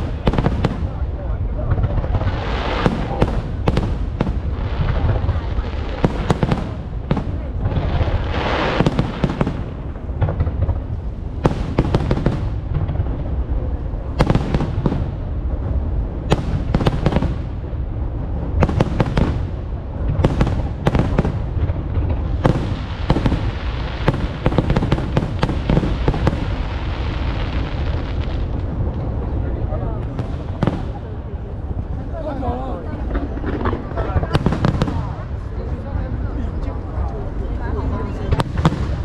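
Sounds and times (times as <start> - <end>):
fireworks bursting: 0.0 - 32.2, 32.8 - 39.0
low rumble: 0.0 - 39.0.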